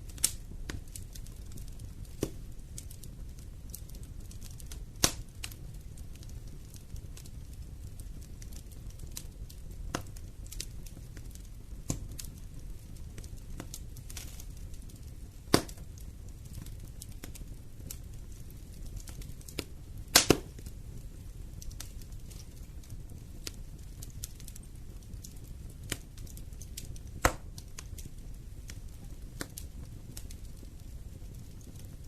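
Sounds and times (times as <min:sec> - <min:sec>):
fire rumbling: 0:00.0 - 0:32.0
wood fire crackling and popping: 0:00.0 - 0:32.0.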